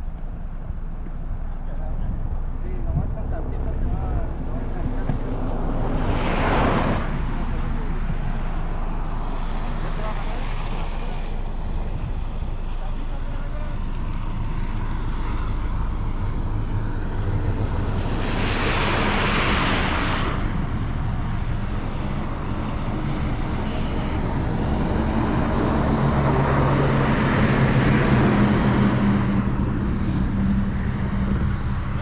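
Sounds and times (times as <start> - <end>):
vehicle engines running: 0.0 - 32.0
passing vehicle hiss: 5.3 - 32.0.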